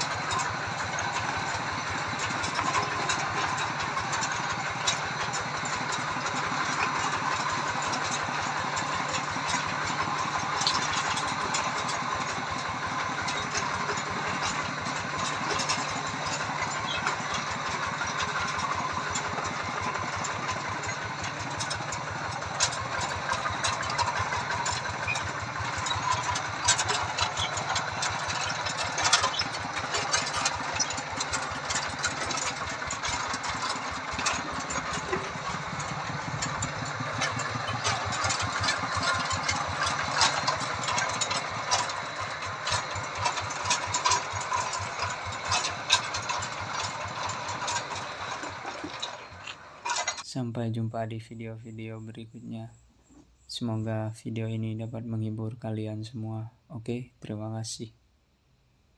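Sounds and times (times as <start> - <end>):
sharp clicks and rattles: 0.0 - 50.3
tractor engines running: 0.0 - 56.2.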